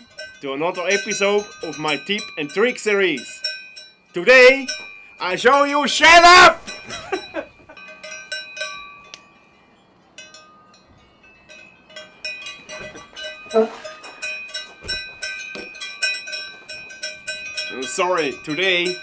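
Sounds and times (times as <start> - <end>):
livestock bells clanking: 0.0 - 19.0.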